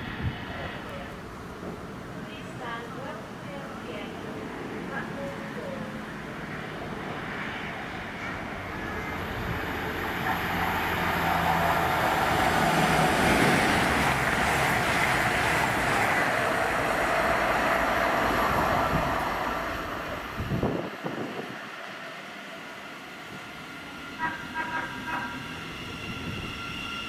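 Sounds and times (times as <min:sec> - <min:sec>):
train passing on rails: 0:00.0 - 0:27.0.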